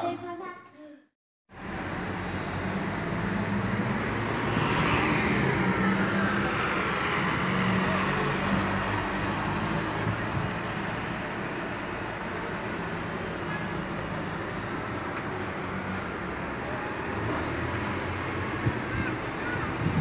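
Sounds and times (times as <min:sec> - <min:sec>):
bus engine passing: 0:01.5 - 0:20.0
car traffic: 0:01.5 - 0:20.0.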